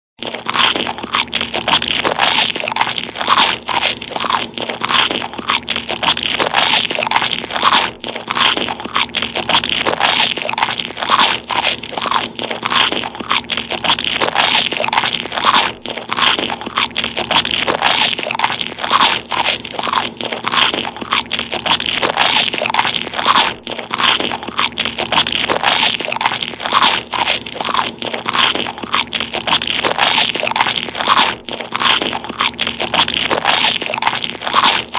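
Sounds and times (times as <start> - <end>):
person chewing gum: 0.2 - 34.9.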